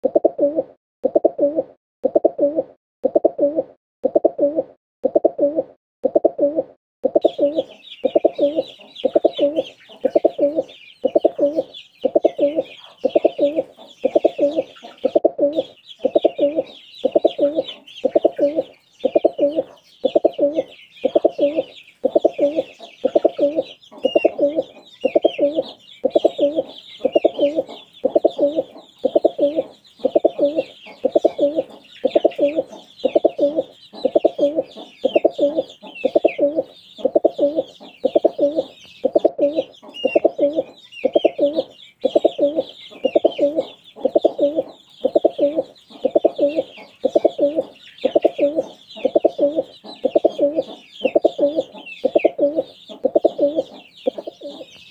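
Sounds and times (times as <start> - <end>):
pigeon cooing: 0.0 - 54.7
chicks peeping: 0.0 - 54.9.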